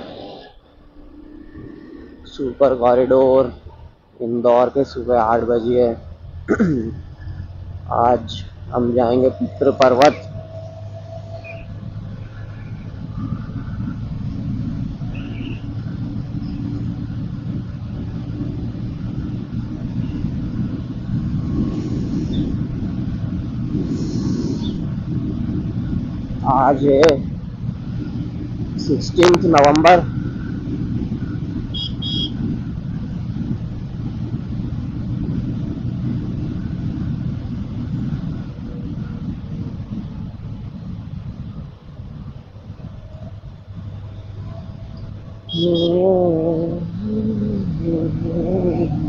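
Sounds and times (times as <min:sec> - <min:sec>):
vehicle rumbling on road: 0:00.0 - 0:49.0.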